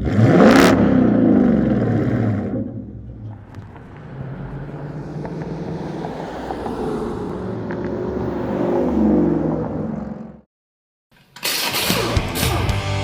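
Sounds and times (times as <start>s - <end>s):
car exhaust revving: 0.0s - 10.4s.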